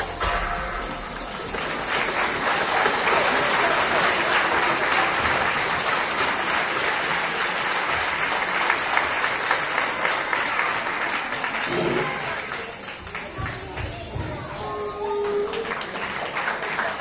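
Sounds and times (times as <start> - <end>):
audience applause: 0.0 - 17.0.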